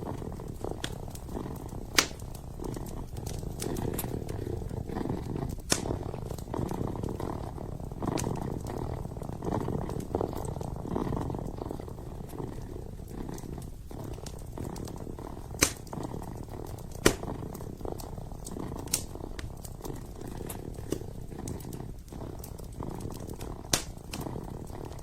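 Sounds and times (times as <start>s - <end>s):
kitten purring: 0.0s - 25.0s
wood fire crackling: 0.0s - 25.0s.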